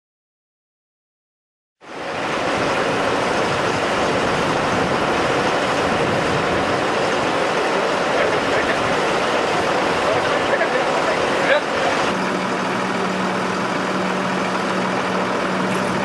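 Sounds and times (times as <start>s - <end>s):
forage harvester running: 1.8s - 16.0s.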